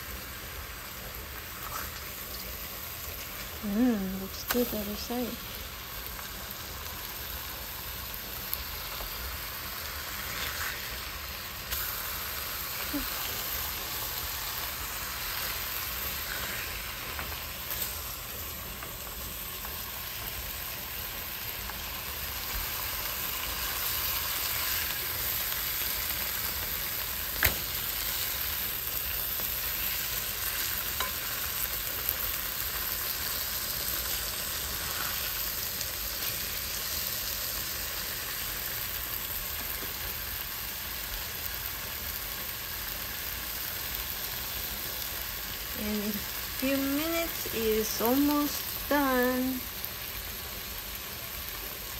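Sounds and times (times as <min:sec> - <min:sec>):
fish sizzling in a pan: 0:00.0 - 0:51.9.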